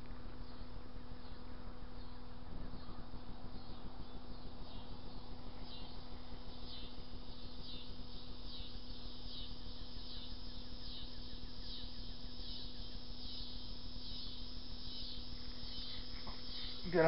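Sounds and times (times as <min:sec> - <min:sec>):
faint steady hum: 0:00.0 - 0:17.0
insect chirping: 0:00.4 - 0:17.0.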